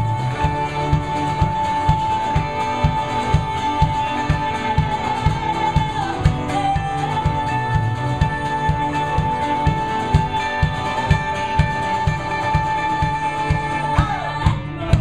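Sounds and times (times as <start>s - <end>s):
kick drum beating: 0.0s - 15.0s
live band playing: 0.0s - 15.0s.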